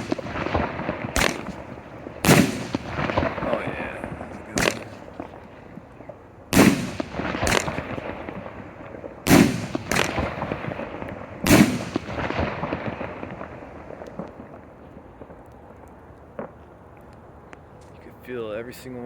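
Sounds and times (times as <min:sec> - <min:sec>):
firework bangs with echo: 0:00.0 - 0:15.4.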